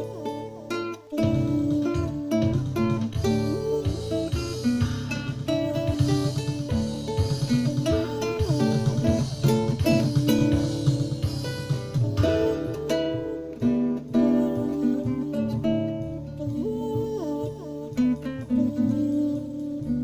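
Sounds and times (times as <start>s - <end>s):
acoustic guitar blues instrumental: 0.0s - 20.0s.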